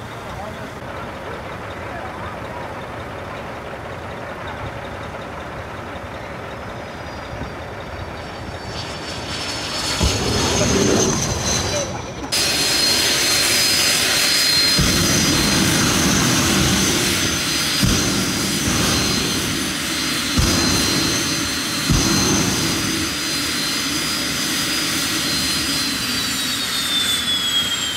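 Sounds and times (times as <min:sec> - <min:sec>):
turbine engine whine and rumble: 0:00.0 - 0:27.9.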